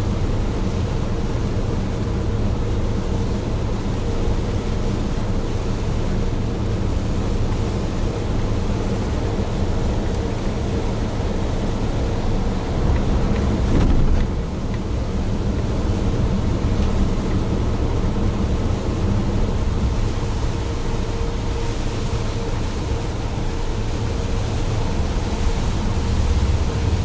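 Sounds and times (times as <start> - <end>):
truck diesel engine drone: 0.0 - 27.0.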